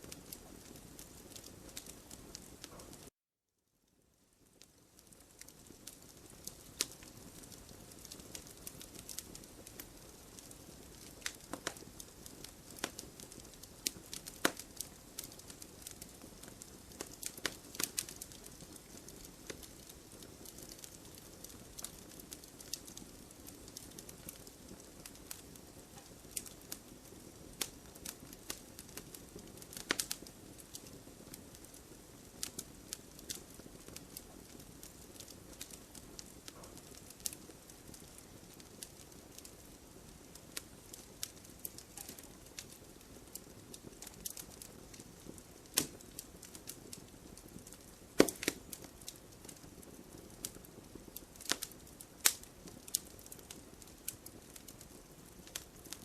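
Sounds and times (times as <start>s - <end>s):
wood crackling and popping: 0.0s - 3.1s, 4.3s - 56.0s
soft rush of flame: 4.4s - 56.0s.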